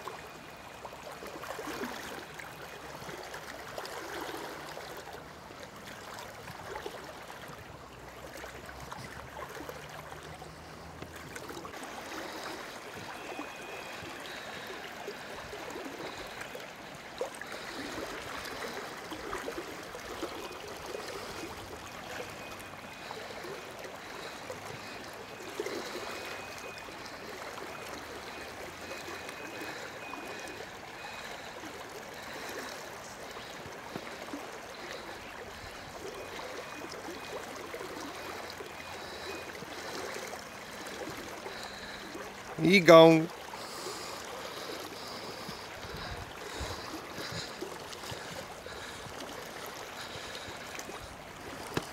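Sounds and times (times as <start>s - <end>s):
river current gurgling and rushing: 0.0s - 51.9s.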